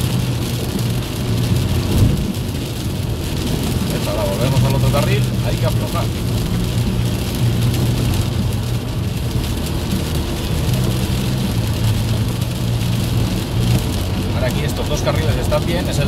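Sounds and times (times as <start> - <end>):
engine and road drone: 0.0 - 16.0.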